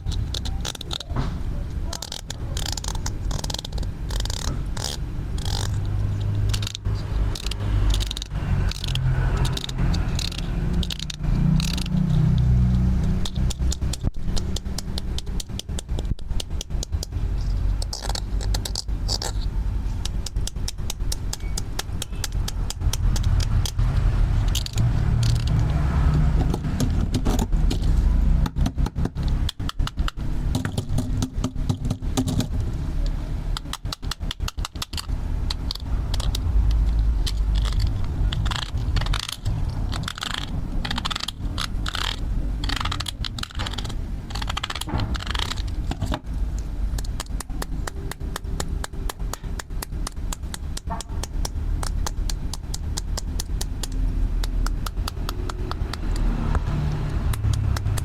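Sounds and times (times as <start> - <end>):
plastic toy tools clicking and rattling: 0.0 - 58.0
steady low rumble: 0.0 - 58.0.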